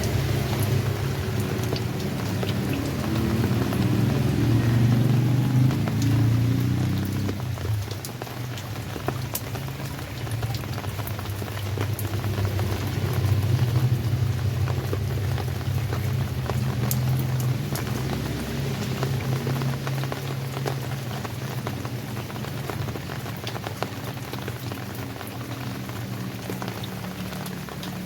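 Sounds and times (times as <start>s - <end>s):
rain falling: 0.0s - 28.0s
sharp drip ticks: 0.0s - 28.0s.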